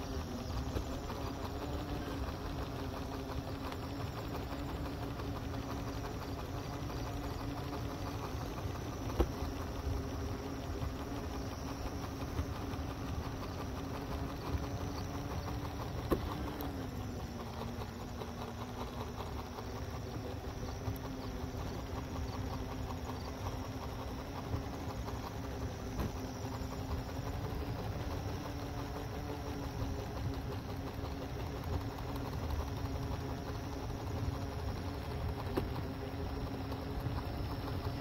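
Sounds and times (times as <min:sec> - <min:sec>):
electric motors humming: 0:00.0 - 0:38.0
wheels rumbling on pavement: 0:00.0 - 0:38.0.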